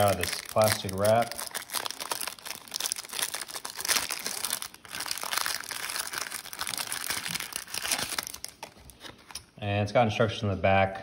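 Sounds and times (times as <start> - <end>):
plastic wrap crinkling and tearing: 0.0 - 9.4.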